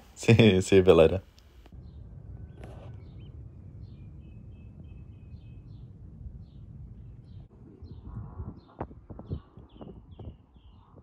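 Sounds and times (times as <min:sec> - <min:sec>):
low outdoor rumble: 0:00.0 - 0:11.0
small birds chirping: 0:00.2 - 0:11.0.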